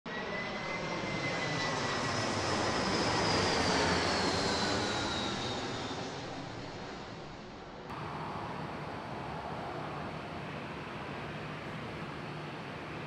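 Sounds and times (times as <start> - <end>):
airliner engine rush: 0.1 - 13.0.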